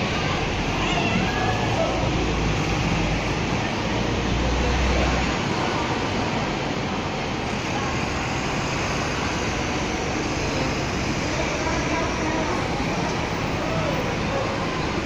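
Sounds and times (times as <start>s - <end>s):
road traffic: 0.0s - 15.0s
trams running: 0.0s - 15.0s.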